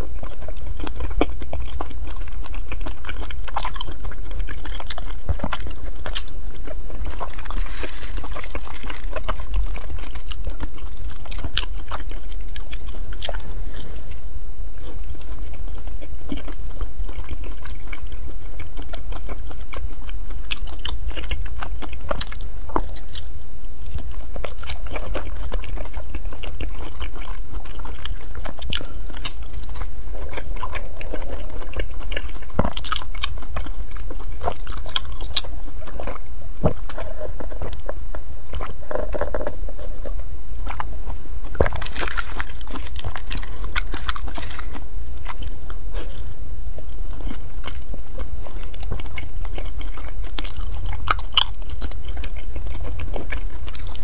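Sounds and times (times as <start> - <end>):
steady low hum: 0.0 - 54.0
wet chewing and biting: 0.0 - 54.0.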